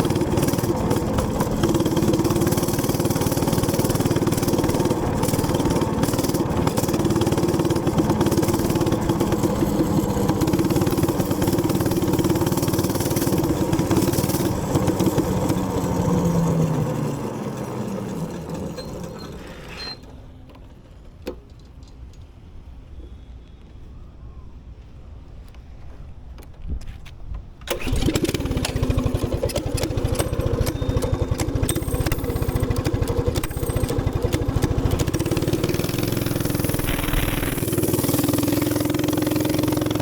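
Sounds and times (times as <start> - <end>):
small gas engine running: 0.0 - 20.0, 27.6 - 40.0.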